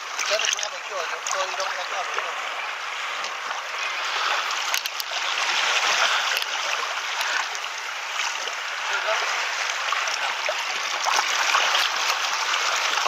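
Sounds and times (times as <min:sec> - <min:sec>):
seawater sloshing among rocks: 0:00.0 - 0:13.0.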